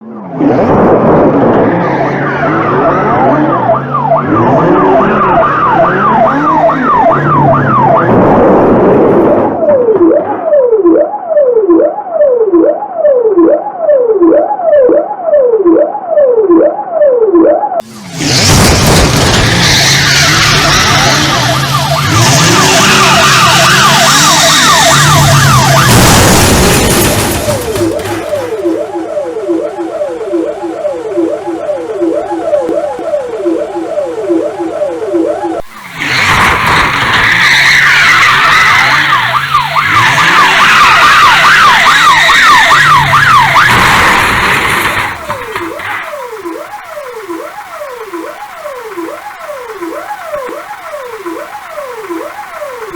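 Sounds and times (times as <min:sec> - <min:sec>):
police siren yelping: 0:00.0 - 0:52.9.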